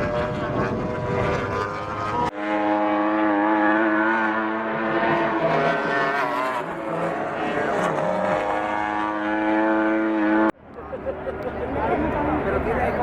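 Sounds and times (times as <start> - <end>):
racing motorcycle engines at high revs: 0.0 - 10.6.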